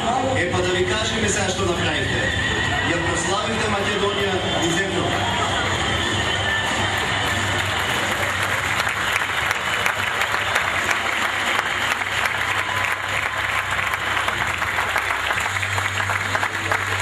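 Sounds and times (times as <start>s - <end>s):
crowd applauding: 2.3s - 17.0s.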